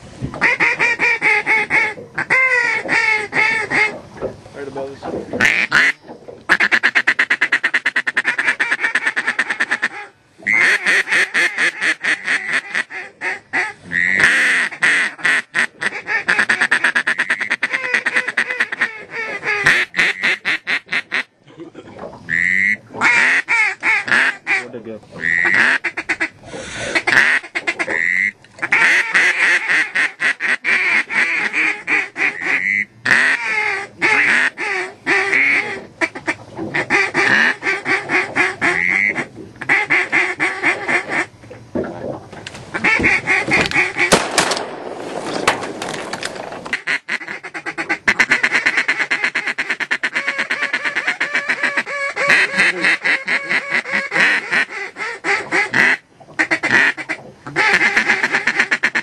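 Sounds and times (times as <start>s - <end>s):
ducks quacking and chattering: 0.3s - 44.8s, 46.0s - 59.0s.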